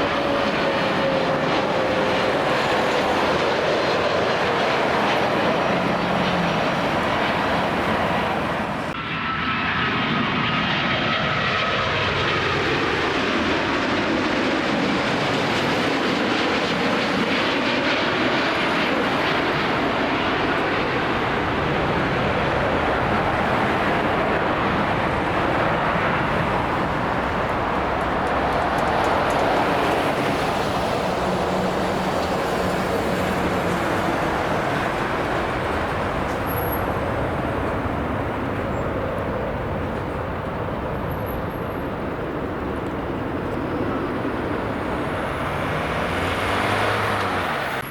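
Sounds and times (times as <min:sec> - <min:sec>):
airliner engines passing: 0:00.0 - 0:47.9.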